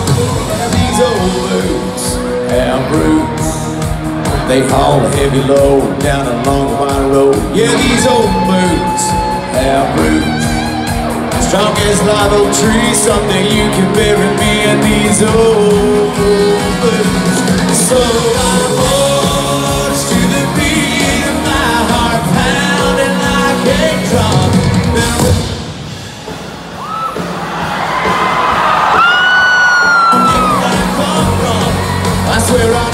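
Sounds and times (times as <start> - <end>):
crowd yelling and whistling: 0.0 - 19.2, 23.4 - 32.9
live country band playing: 0.0 - 32.9.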